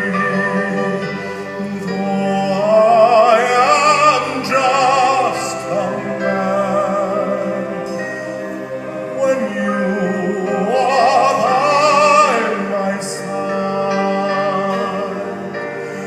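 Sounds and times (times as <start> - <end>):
sustained accompaniment: 0.0 - 16.0.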